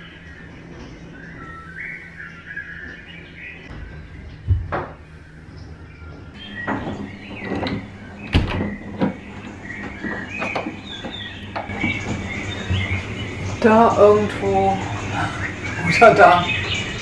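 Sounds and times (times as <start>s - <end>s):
recorded birdsong: 0.0s - 17.0s.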